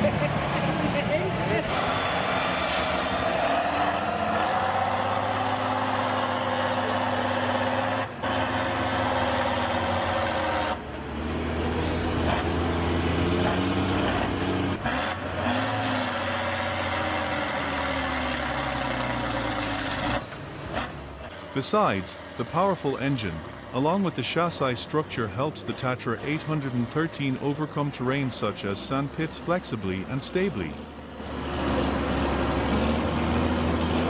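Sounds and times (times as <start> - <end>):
truck diesel engine revving: 0.0 - 34.0.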